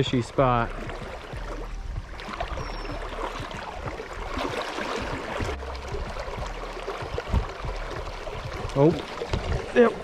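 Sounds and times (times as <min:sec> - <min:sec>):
creek water flowing: 0:00.0 - 0:10.0.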